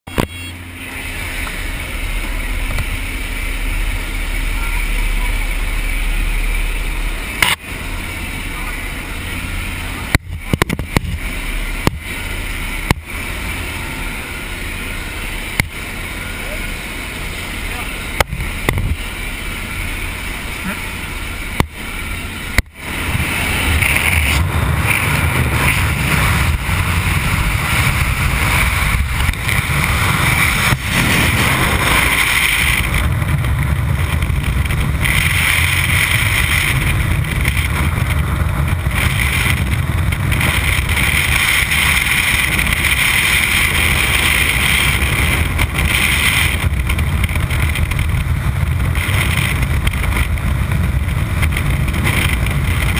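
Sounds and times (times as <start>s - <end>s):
aircraft engine: 0.0s - 52.9s
freefall wind rush: 0.1s - 52.9s.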